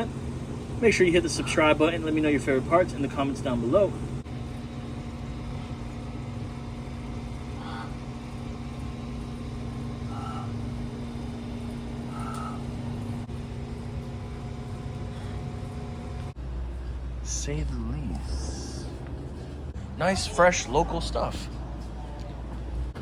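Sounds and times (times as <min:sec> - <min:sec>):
low mechanical droning hum: 0:00.0 - 0:23.0.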